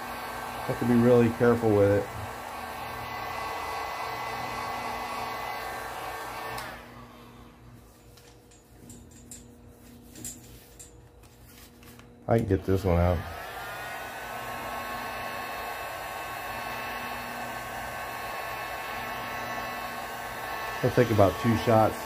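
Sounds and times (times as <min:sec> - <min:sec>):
heat gun fan whirring: 0:00.0 - 0:22.0.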